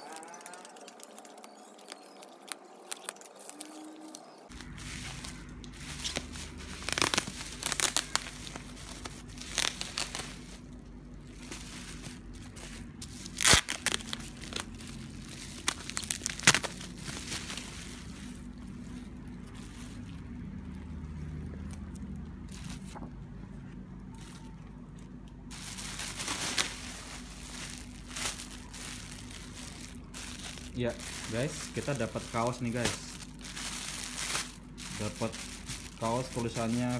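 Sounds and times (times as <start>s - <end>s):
bubble wrap crinkling: 0.0s - 23.1s, 24.0s - 36.9s.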